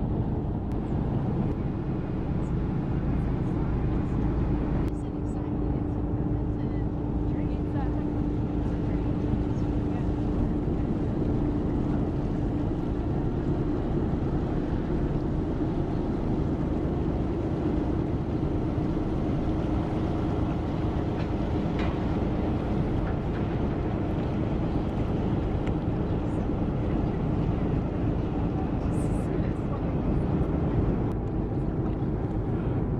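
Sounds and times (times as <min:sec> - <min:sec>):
boat engine rumbling: 0:00.0 - 0:32.9.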